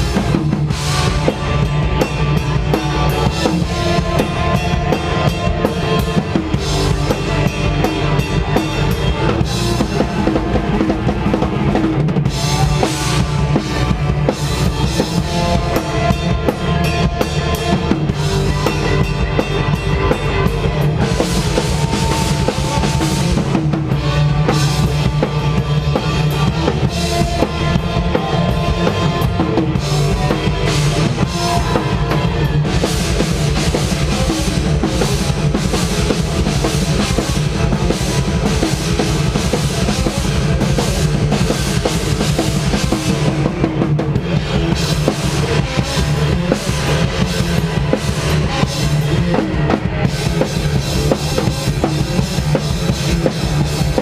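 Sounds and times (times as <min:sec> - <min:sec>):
drum kit: 0:00.0 - 0:54.0
live hardcore band music: 0:00.0 - 0:54.0.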